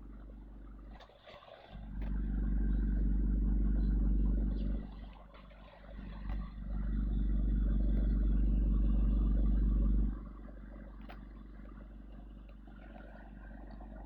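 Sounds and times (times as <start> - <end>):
vehicle engine rumbling: 1.8 - 14.0.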